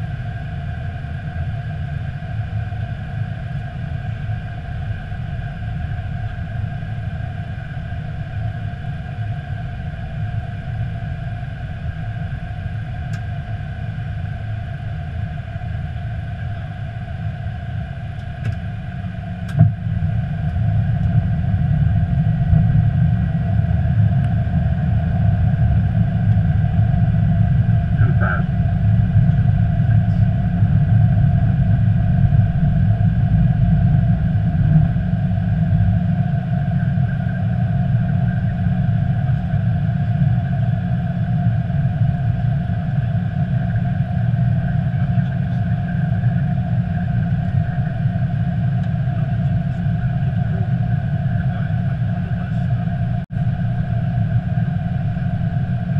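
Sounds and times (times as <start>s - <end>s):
low rumble of airflow and engines: 0.0s - 55.9s
steady hums: 0.0s - 55.9s.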